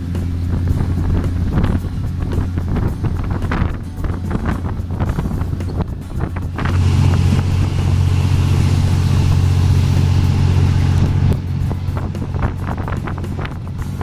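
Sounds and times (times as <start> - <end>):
train drone and rushing: 0.0 - 14.0.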